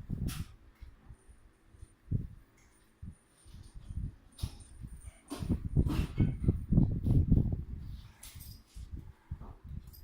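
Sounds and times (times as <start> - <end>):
cats tussling thuds and scuffles: 0.0 - 10.0.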